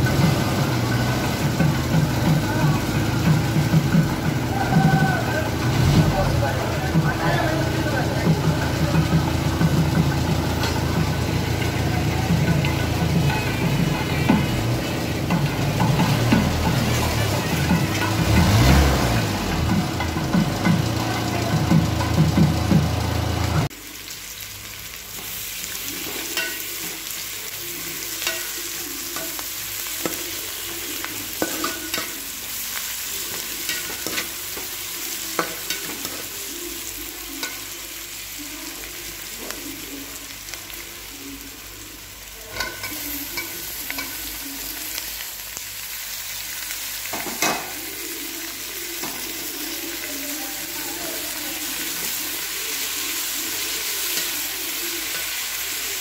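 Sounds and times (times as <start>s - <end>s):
onions sizzling in hot oil: 0.0s - 56.0s.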